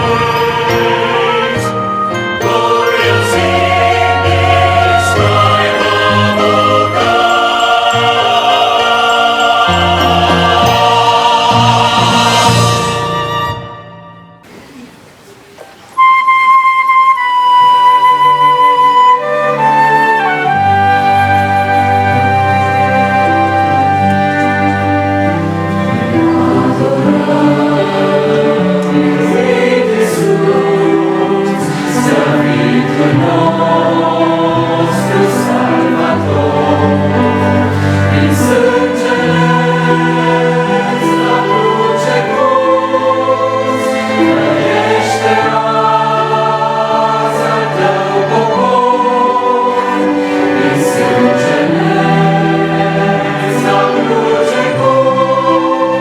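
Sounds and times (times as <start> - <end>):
choir singing worship music: 0.0 - 14.6, 18.4 - 56.0.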